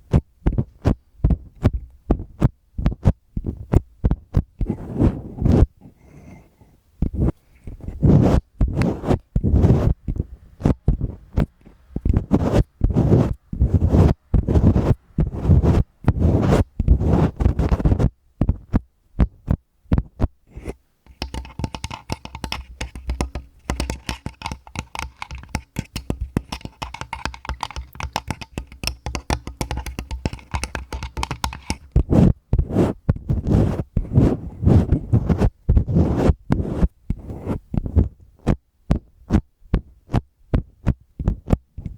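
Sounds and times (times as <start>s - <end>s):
fingers scratching on microphone: 0.0s - 41.9s.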